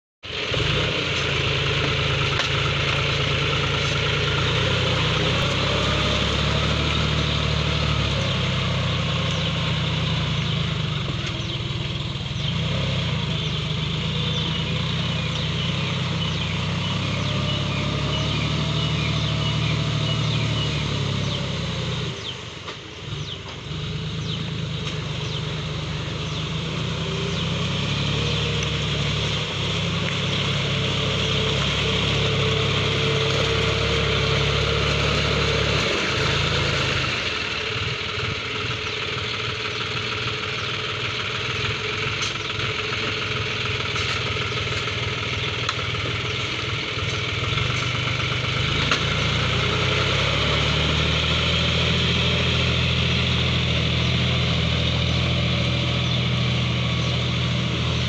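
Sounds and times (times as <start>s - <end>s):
tractor diesel engine under load: 0.2s - 58.0s.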